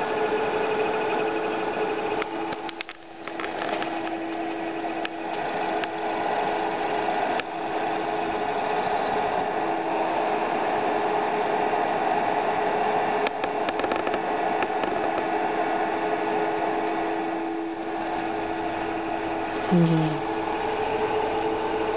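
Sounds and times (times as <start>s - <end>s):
electrical hum: 0.0s - 21.9s.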